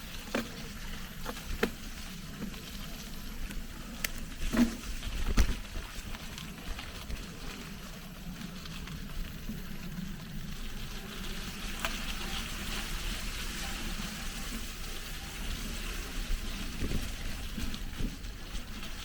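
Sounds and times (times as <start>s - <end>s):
bike tyres on dirt: 0.0s - 19.0s
wind rumble on microphone: 1.4s - 19.0s.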